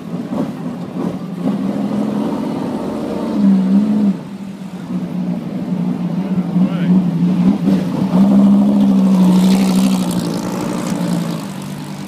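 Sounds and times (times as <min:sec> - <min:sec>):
race car engine rolling by: 0:00.0 - 0:12.0.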